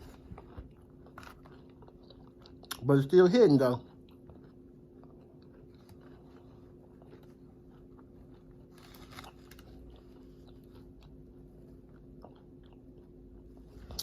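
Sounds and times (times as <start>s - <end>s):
chewing crunches: 0.0s - 14.0s.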